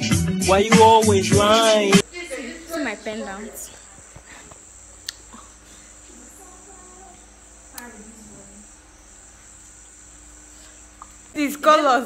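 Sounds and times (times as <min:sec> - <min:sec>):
crickets chirring: 0:00.1 - 0:12.0.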